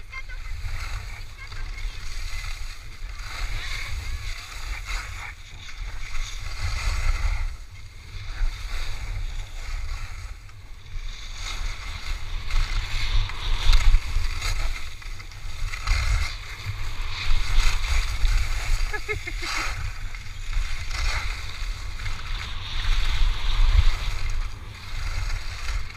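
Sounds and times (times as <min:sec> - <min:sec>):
skis carving on snow: 0:00.0 - 0:25.9
wind buffeting microphone: 0:00.0 - 0:25.9.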